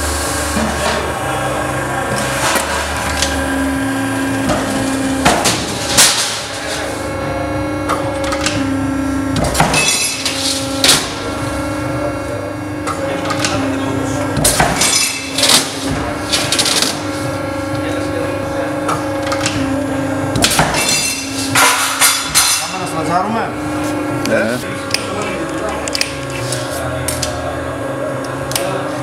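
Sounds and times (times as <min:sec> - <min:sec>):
steady drone: 0:00.0 - 0:29.0.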